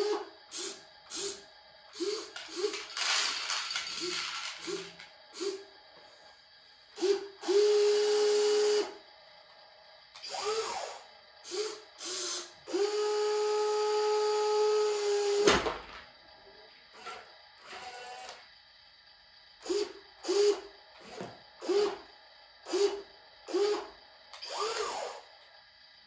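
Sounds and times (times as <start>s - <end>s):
toy electric motors whining: 0.0s - 6.3s, 7.0s - 9.0s, 10.2s - 15.7s, 16.9s - 18.5s, 19.6s - 25.4s.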